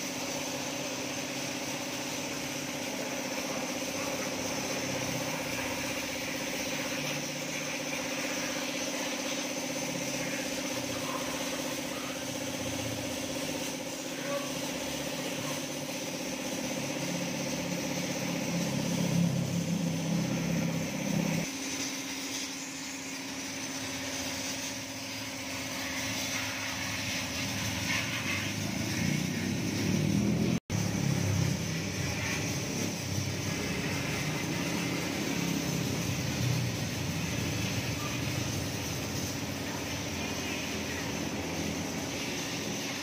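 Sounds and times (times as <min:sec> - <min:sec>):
water spraying from a hose: 0:00.0 - 0:43.0.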